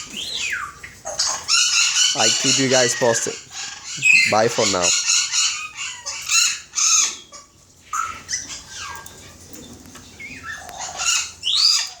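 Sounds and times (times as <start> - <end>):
cockatiels chirping and whistling: 0.0 - 12.0.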